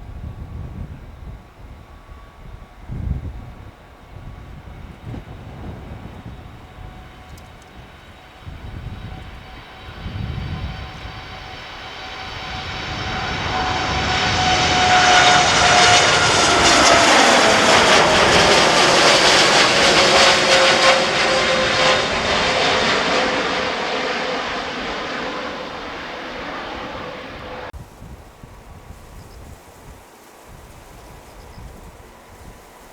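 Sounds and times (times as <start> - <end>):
jet airliner engines at takeoff: 0.0 - 32.9.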